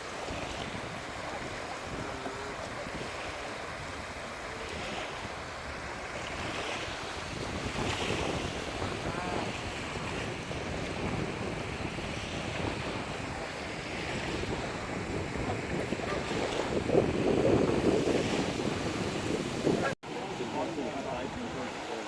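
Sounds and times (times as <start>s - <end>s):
sea waves washing in: 0.0s - 22.0s
wind buffeting microphone: 0.0s - 22.0s.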